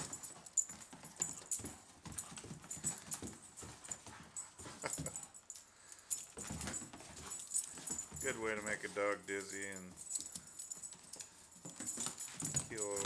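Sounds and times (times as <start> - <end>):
collar jingle: 0.0 - 13.0
dog paws on floor: 0.0 - 13.0.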